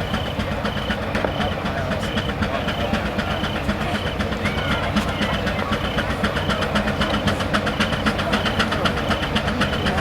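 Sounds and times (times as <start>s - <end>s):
steam engine exhaust chuffs: 0.0s - 10.0s.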